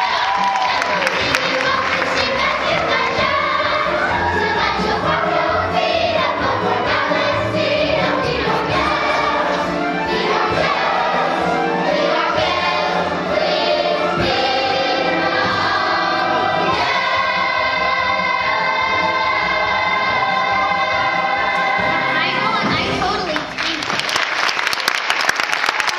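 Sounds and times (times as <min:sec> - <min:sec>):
youth choir singing: 0:00.0 - 0:22.8
musical accompaniment: 0:00.0 - 0:24.8.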